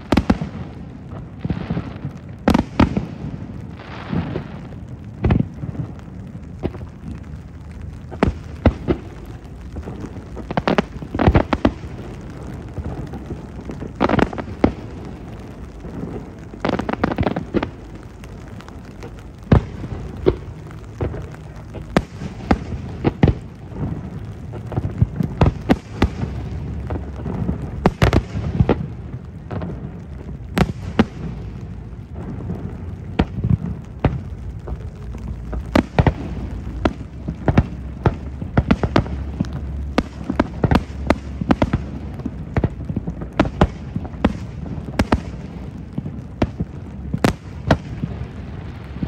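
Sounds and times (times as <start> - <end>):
fireworks bursting with bangs: 0.0 - 49.0
low rumble: 4.6 - 49.0.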